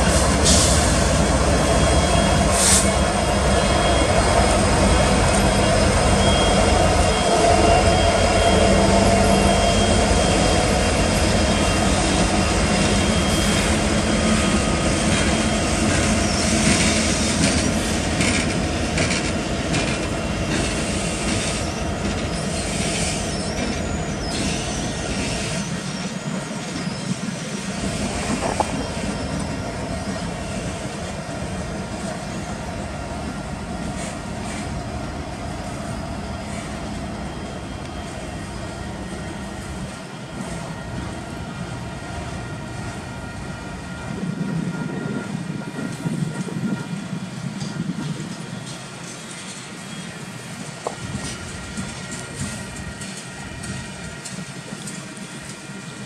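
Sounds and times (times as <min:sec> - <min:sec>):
diesel locomotive engines: 0:00.0 - 0:56.0
rail cars rolling on track: 0:00.0 - 0:56.0
train wheel squeal: 0:00.0 - 0:56.0.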